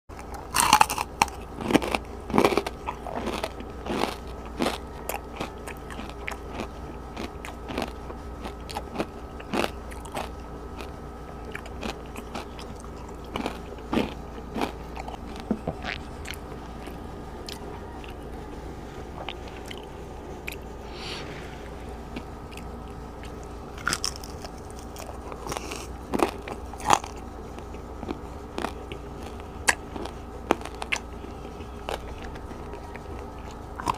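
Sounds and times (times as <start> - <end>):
person chewing crispy food: 0.1 - 33.9.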